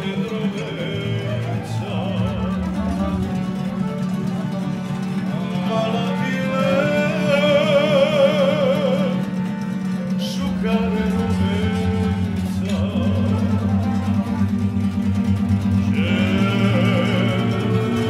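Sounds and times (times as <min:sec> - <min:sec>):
man singing with vibrato: 0:00.0 - 0:14.6, 0:15.6 - 0:18.0
accordion: 0:00.0 - 0:18.0
acoustic guitars: 0:00.0 - 0:18.0
upright double bass: 0:00.0 - 0:18.0.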